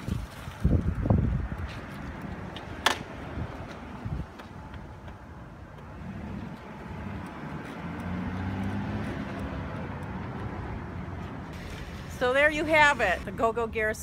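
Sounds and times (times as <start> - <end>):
vehicle engine humming: 0.9 - 14.0.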